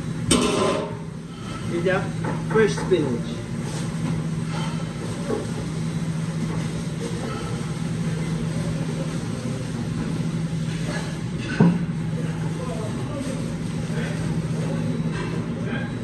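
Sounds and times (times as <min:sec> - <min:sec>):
kitchen machinery hum: 0:00.0 - 0:16.0.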